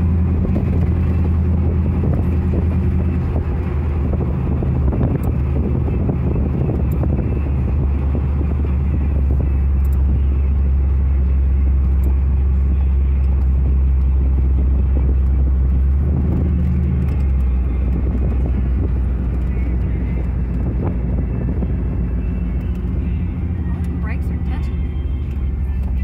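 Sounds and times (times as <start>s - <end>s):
engine droning inside cab: 0.0s - 26.0s
tyre and road noise: 0.0s - 26.0s.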